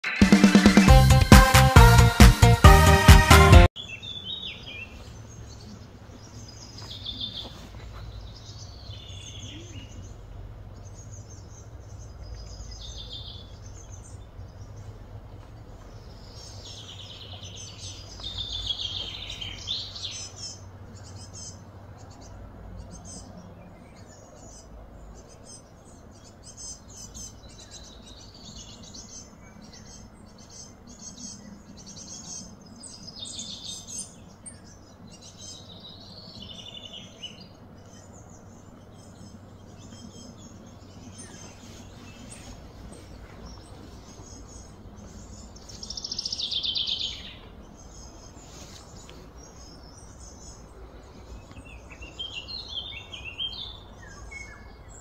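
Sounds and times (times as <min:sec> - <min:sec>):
sweeping bird calls: 0:00.0 - 0:55.0
birds chirping and calling: 0:03.8 - 0:55.0
steady low hum: 0:04.8 - 0:55.0.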